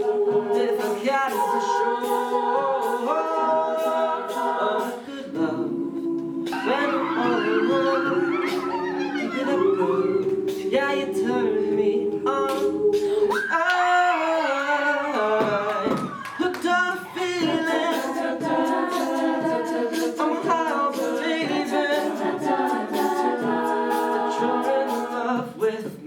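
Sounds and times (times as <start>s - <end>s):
a cappella group singing chords: 0.0s - 26.0s
vocal percussion clicking: 0.5s - 14.0s, 15.1s - 26.0s.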